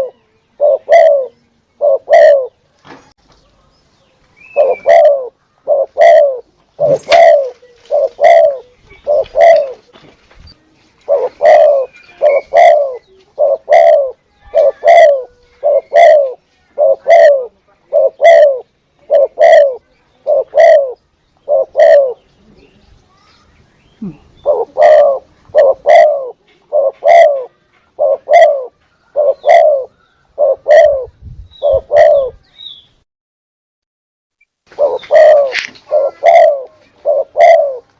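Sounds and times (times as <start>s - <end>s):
dove cooing: 0.0s - 2.6s, 4.4s - 10.0s, 11.0s - 22.7s, 24.0s - 32.4s, 34.7s - 37.9s.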